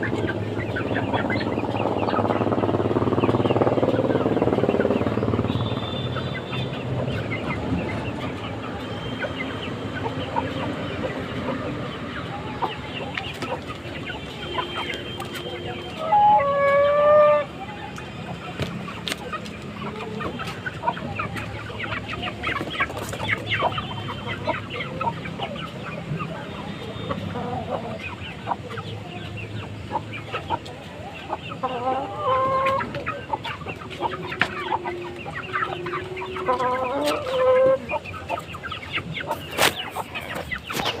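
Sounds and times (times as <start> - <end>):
chickens clucking and calling: 0.0 - 41.0.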